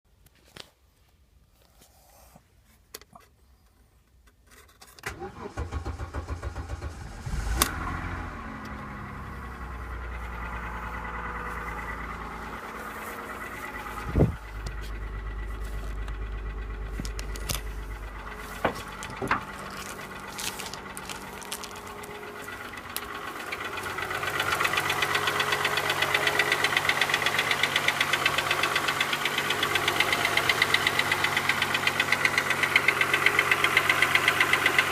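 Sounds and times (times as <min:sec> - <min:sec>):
car engine cranking and idling: 0:02.9 - 0:34.9.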